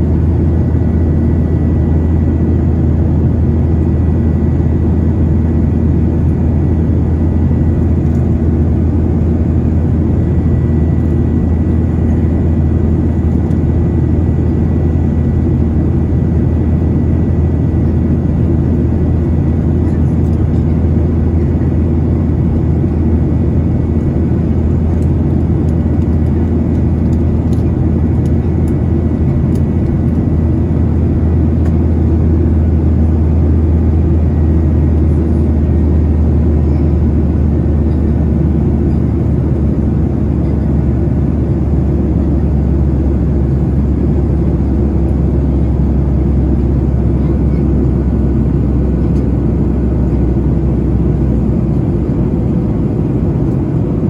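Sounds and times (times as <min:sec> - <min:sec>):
airplane cabin hum: 0:00.0 - 0:54.0.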